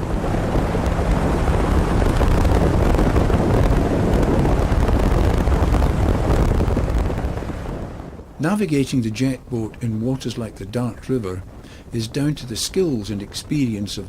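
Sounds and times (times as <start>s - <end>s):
boat engine drone: 0.0s - 14.0s
wind rushing across microphone: 0.0s - 14.0s.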